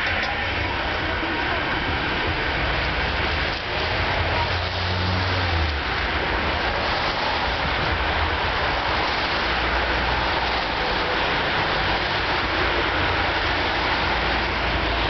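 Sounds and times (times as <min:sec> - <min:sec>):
cars driving on wet road: 0:00.0 - 0:15.0.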